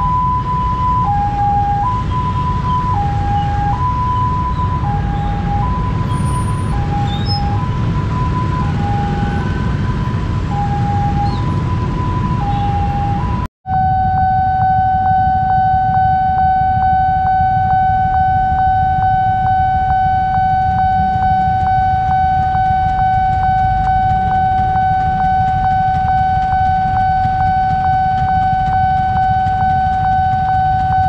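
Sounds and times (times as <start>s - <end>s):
railroad crossing alarm tone: 0.0s - 31.0s.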